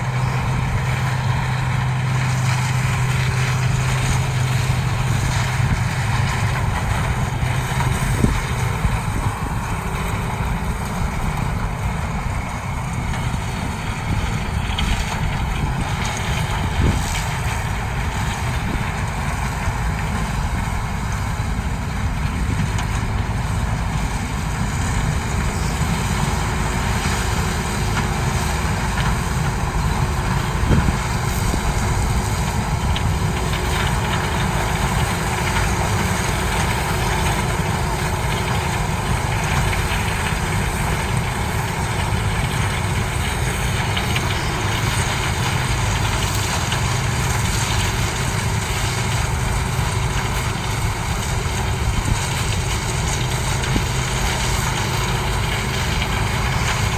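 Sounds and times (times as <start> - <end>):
combine harvester running: 0.0 - 56.9.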